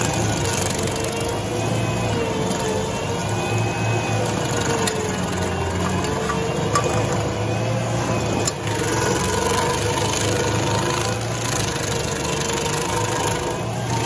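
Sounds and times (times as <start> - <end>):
stump grinder grinding wood: 0.0 - 14.0.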